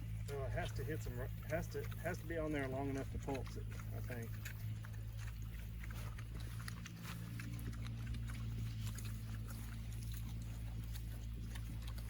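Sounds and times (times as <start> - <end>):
hogs grunting: 0.0 - 12.0
steady low hum: 0.0 - 12.0.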